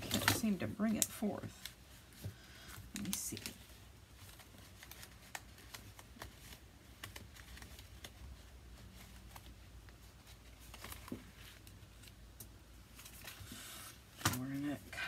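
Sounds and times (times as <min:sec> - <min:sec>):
paper and card being handled: 0:00.0 - 0:14.7.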